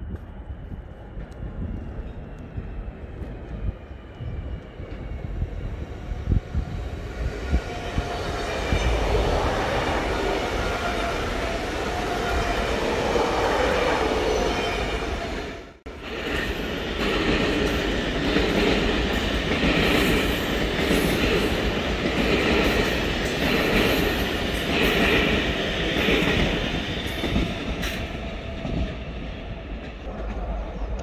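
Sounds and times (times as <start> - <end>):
train wheels rumbling and clattering: 0.0 - 31.0.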